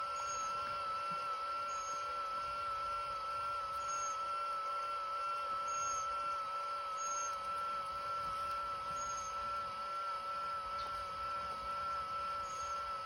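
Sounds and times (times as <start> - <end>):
bubble machine motor hum: 0.0 - 13.0.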